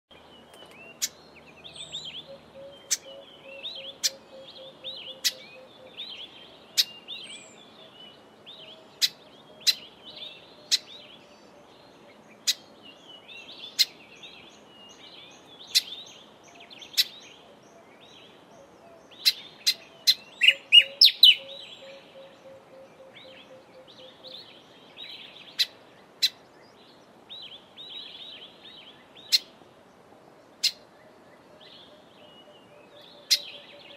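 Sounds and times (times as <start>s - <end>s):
bird twittering song: 0.1s - 33.9s.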